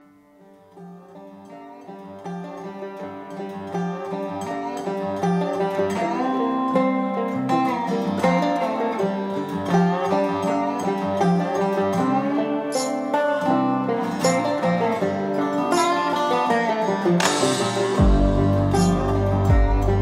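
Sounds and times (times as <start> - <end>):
instrumental music: 0.0 - 20.0.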